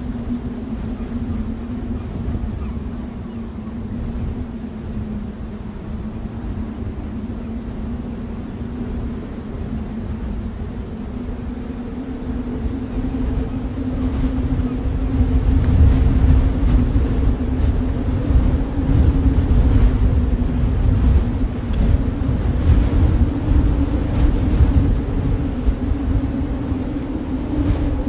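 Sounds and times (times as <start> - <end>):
snowstorm wind rumbling: 0.0 - 28.0.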